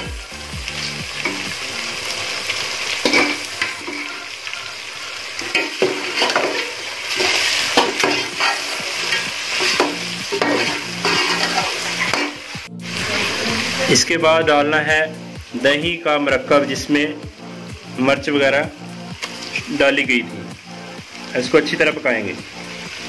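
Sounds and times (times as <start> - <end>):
chicken frying in oil: 0.0 - 14.1, 15.3 - 23.0.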